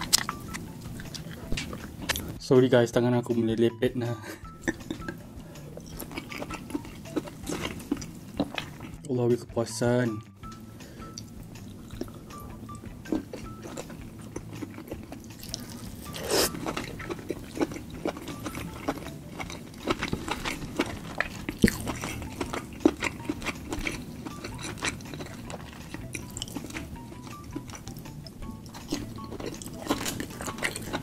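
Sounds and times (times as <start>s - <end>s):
person chewing wetly: 0.0s - 2.3s, 4.6s - 9.0s, 11.0s - 31.0s.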